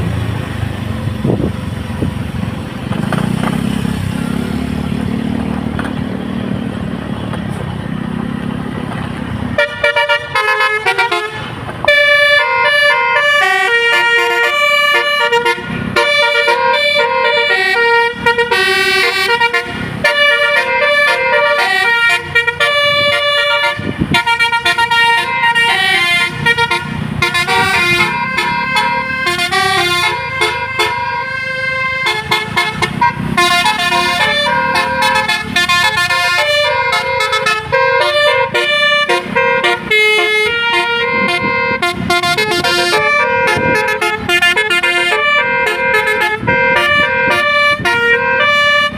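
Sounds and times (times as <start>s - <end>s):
bus engine running: 0.0s - 48.9s
multi-trumpet horn melody: 9.5s - 48.9s.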